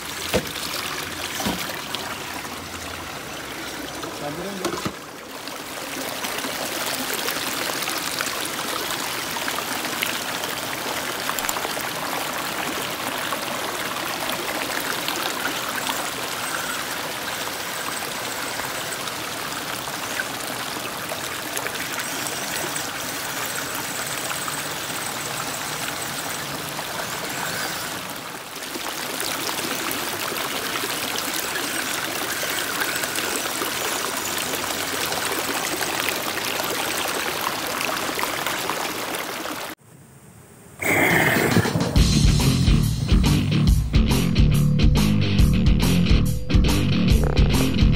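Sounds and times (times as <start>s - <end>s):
stream running over rocks: 0.0s - 39.8s.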